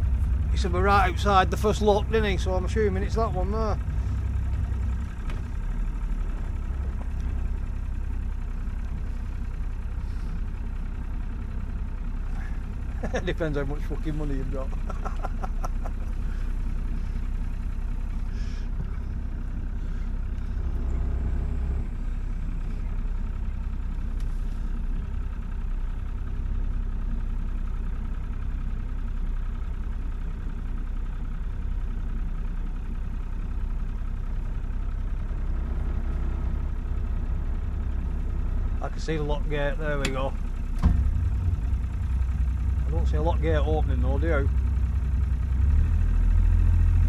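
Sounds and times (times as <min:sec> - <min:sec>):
boat engine idling: 0:00.0 - 0:47.0.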